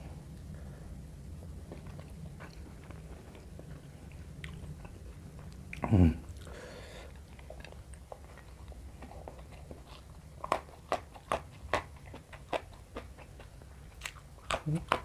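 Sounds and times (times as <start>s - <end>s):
person chewing food: 1.3s - 15.0s.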